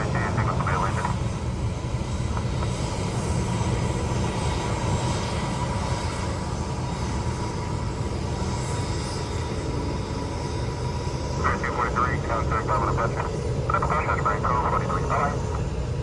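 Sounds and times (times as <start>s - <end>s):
faint jet engine whine: 0.0s - 16.0s
jet engines rumbling: 0.0s - 16.0s.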